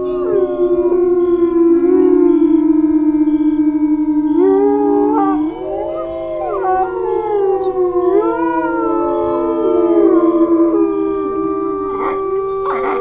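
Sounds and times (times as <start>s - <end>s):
dogs howling: 0.0s - 13.0s.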